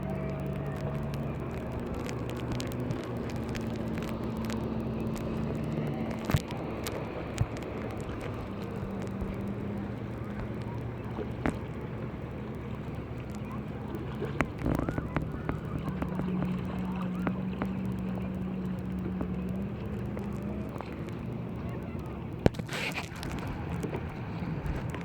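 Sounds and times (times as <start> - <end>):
motorboat engine droning: 0.0 - 25.0.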